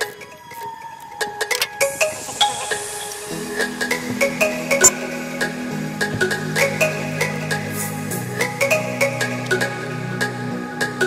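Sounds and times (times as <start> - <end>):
light electronic music: 0.0 - 11.0.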